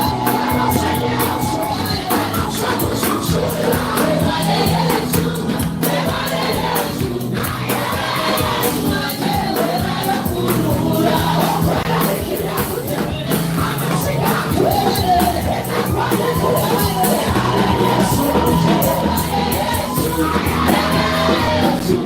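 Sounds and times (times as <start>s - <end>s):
church praise music: 0.0s - 22.0s
congregation singing: 0.0s - 22.0s
held bass notes: 0.0s - 22.0s
steady drum beat: 0.0s - 22.0s.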